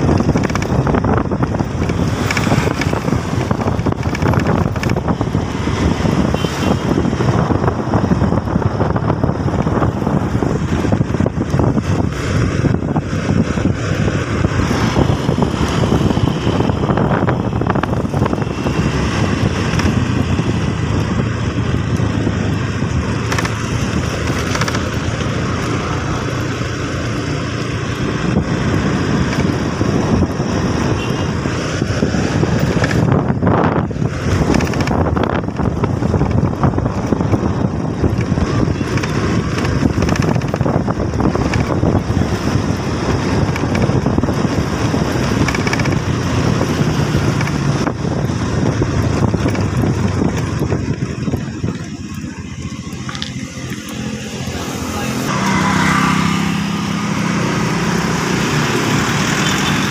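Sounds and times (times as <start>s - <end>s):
vehicle running noise: 0.0s - 59.9s
wind rushing over microphone: 0.0s - 59.9s.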